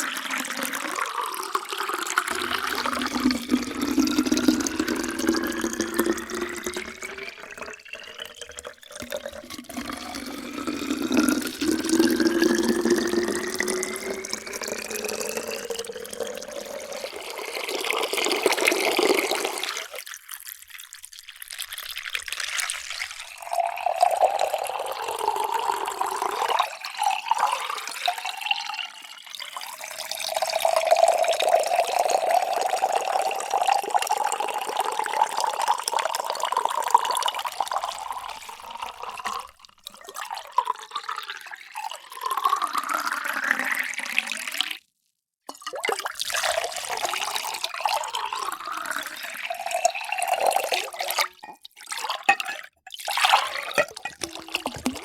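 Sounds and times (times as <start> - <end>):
water pouring into vessel: 0.0 - 44.9, 45.5 - 55.0.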